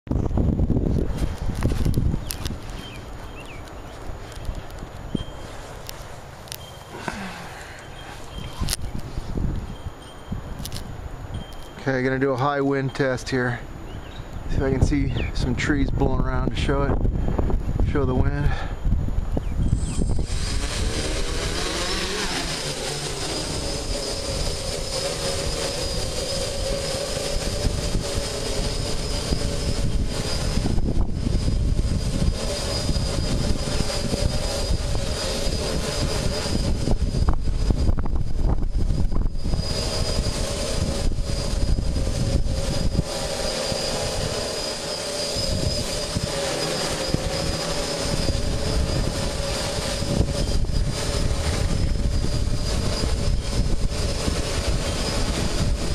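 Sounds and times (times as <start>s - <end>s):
wind buffeting microphone: 0.1s - 6.0s, 7.0s - 55.9s
drone motors humming: 0.1s - 55.9s.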